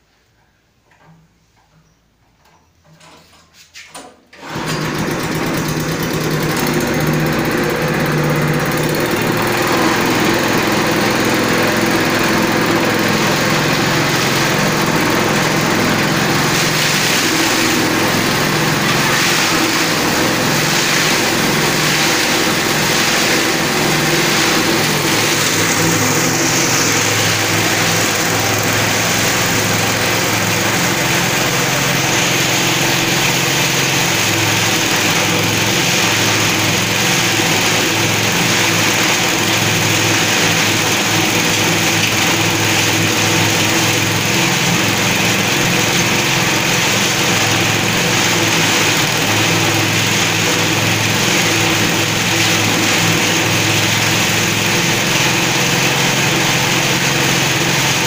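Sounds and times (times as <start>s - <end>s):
petrol engine running: 4.4s - 58.0s.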